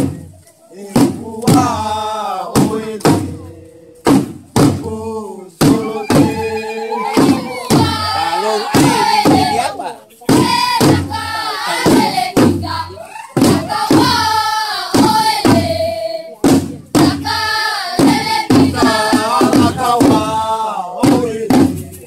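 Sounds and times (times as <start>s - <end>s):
group singing in unison: 0.0s - 22.0s.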